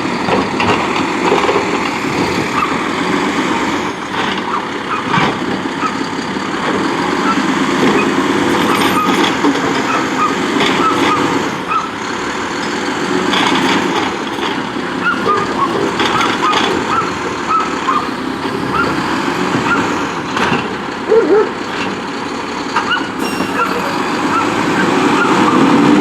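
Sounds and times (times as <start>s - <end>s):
refuse truck running: 0.0s - 26.0s.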